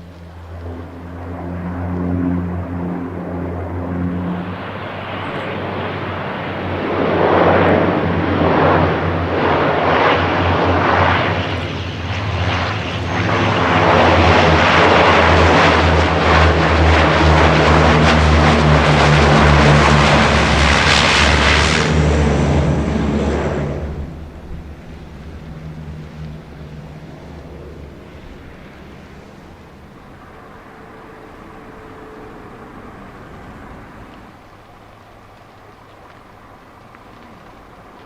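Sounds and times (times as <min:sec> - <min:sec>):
turboprop engines running: 0:00.0 - 0:38.0.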